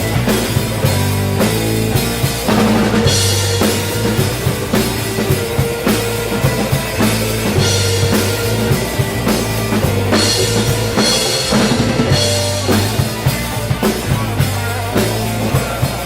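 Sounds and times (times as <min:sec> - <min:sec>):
blues band playing: 0:00.0 - 0:16.0
drum kit beat: 0:00.0 - 0:16.0.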